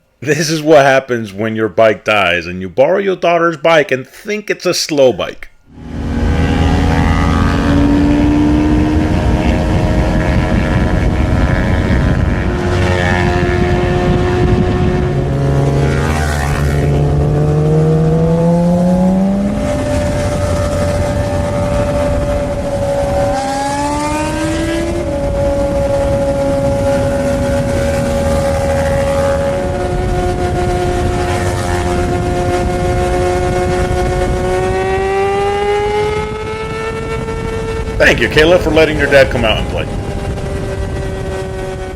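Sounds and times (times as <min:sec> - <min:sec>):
motorcycle engine accelerating: 0:05.7 - 0:41.9.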